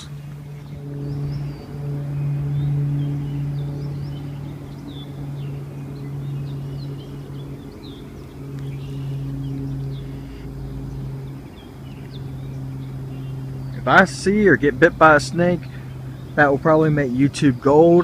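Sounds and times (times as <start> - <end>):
low machine hum: 0.0 - 18.0
small birds chirping: 0.0 - 18.0.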